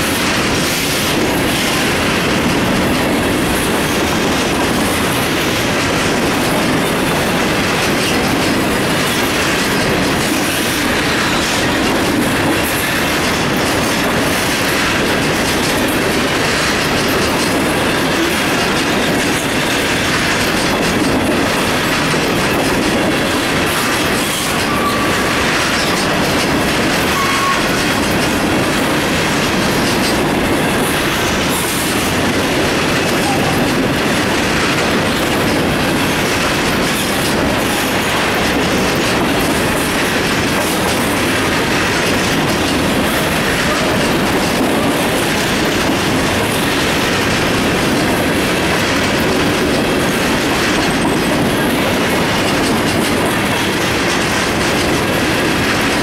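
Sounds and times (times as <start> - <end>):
freight train rolling past: 0.0 - 56.0
wheels clicking over rail joints: 0.0 - 56.0.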